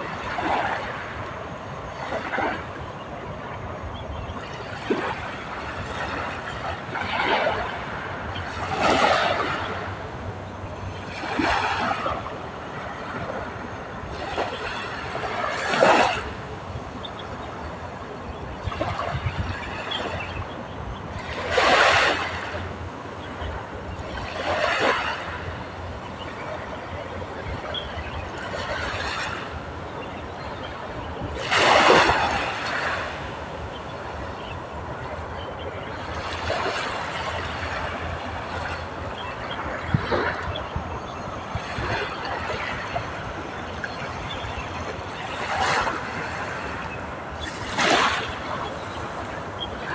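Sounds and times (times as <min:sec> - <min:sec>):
small waves washing onto shore: 0:00.0 - 0:49.9.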